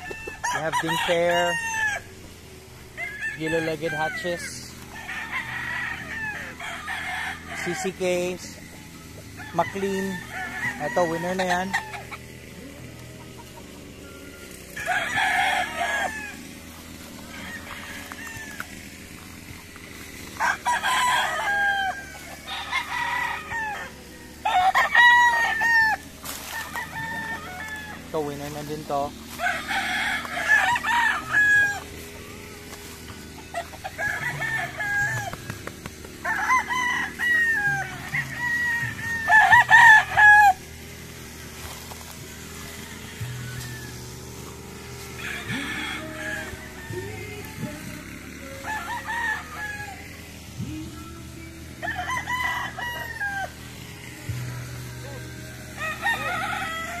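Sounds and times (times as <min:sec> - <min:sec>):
rooster crowing: 0:00.0 - 0:57.0.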